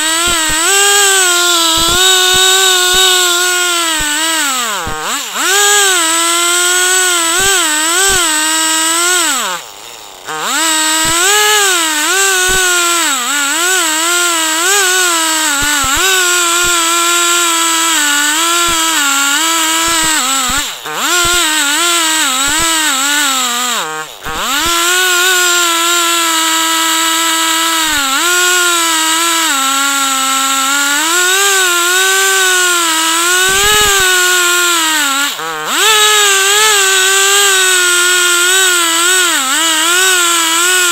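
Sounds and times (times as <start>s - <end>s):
chainsaw ripping a log: 0.0s - 40.9s.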